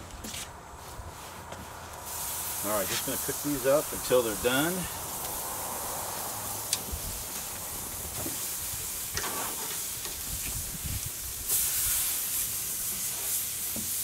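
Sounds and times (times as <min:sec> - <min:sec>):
meat sizzling on a grill: 0:02.0 - 0:14.0.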